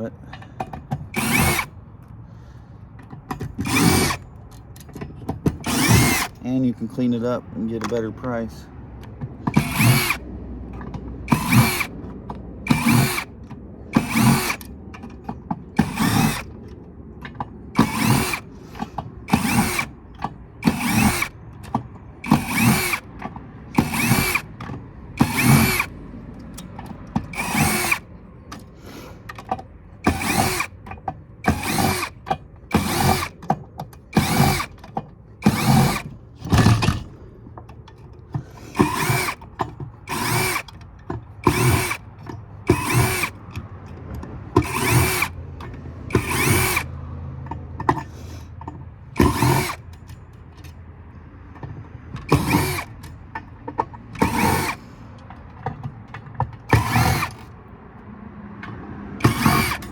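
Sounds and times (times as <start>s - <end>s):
power drill whirring: 0.0s - 8.6s, 9.4s - 37.2s, 38.3s - 43.7s, 44.5s - 47.0s, 49.1s - 50.7s, 52.2s - 53.2s, 54.1s - 55.1s, 55.8s - 57.6s, 59.2s - 59.9s.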